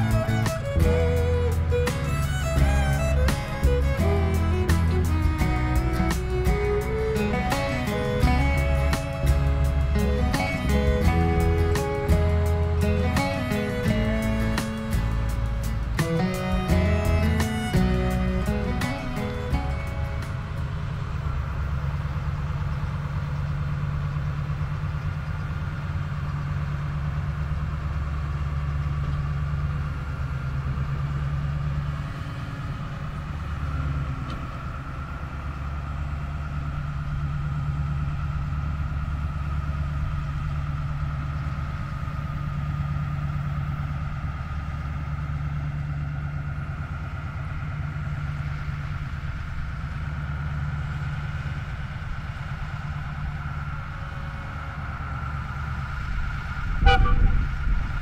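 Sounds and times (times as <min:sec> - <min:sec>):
railcar engine humming: 0:00.0 - 0:58.0.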